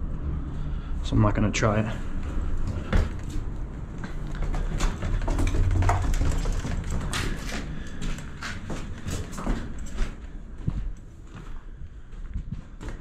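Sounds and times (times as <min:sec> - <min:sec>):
footsteps crunching on debris: 0:02.2 - 0:13.0.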